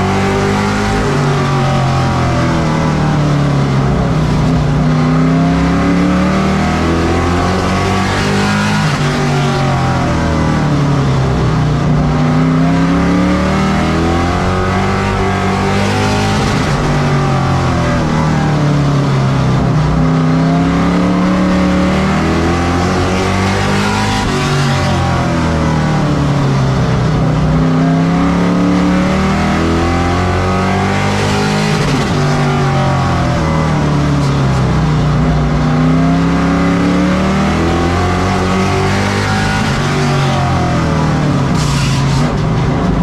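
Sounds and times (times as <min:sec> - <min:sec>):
race truck engines: 0:00.0 - 0:43.0.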